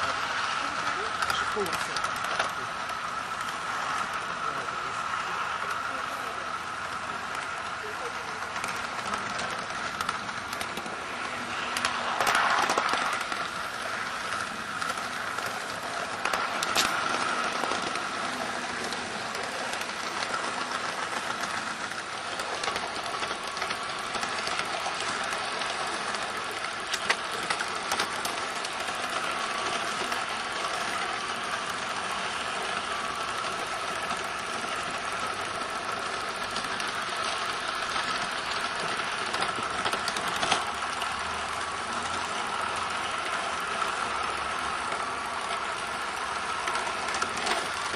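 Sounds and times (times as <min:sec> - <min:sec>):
model train gear whine: 0:00.0 - 0:47.9
wheels clicking over rail joints: 0:00.0 - 0:47.9.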